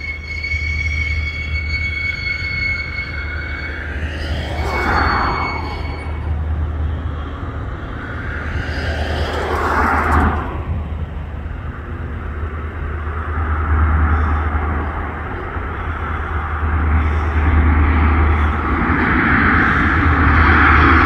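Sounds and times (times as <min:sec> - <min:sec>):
turboprop aircraft drone: 0:00.0 - 0:21.0.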